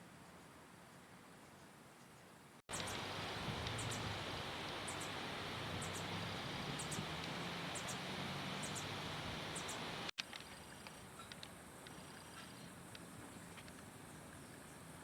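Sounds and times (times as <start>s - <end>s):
background hiss: 0.1s - 15.0s.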